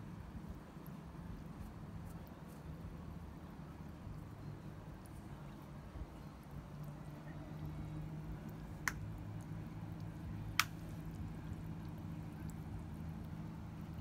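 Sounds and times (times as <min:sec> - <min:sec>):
steady low hum: 0:00.0 - 0:14.0
water drips: 0:00.3 - 0:14.0.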